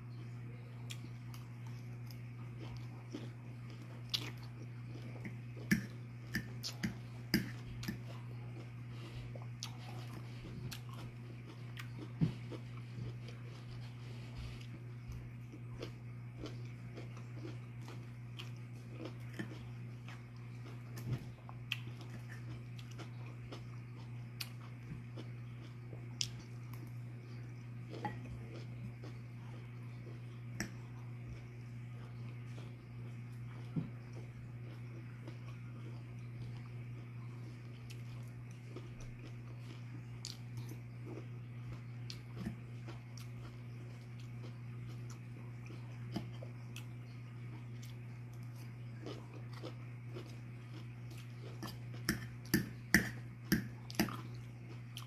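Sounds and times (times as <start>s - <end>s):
steady low hum: 0.0s - 55.0s
person chewing food: 0.1s - 55.0s.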